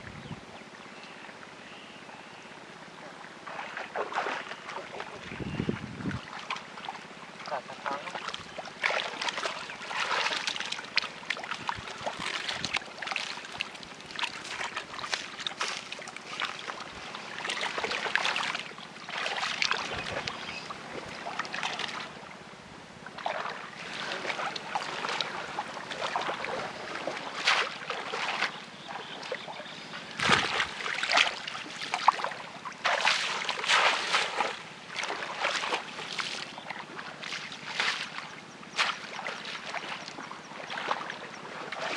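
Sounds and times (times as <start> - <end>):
muddy water splashing: 3.1 - 22.3, 23.1 - 41.9.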